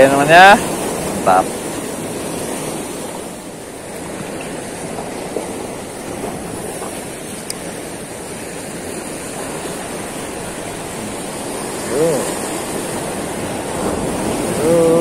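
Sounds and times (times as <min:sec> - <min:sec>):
sea surf on rocks: 0:00.0 - 0:15.0.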